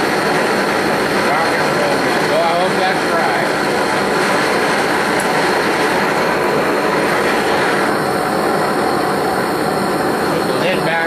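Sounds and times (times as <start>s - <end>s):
propane torch roaring: 0.0s - 11.0s.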